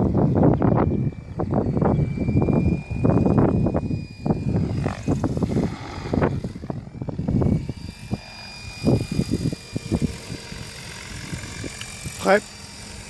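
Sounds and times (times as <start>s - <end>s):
low rumbling gusts: 0.0s - 13.0s
rc helicopter rotor whine: 0.0s - 13.0s.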